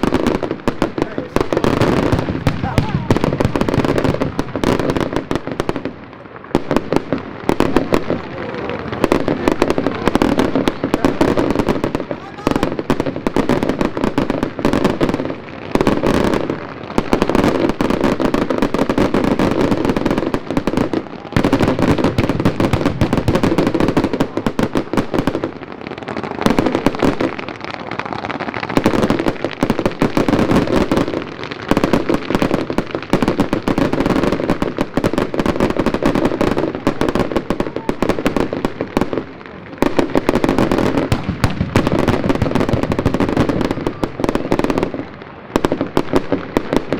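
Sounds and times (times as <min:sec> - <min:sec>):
fireworks and firecrackers banging: 0:00.0 - 0:46.9.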